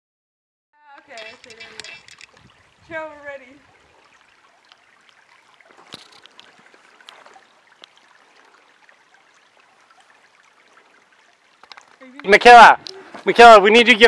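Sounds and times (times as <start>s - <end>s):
stream trickling: 0.8s - 14.0s.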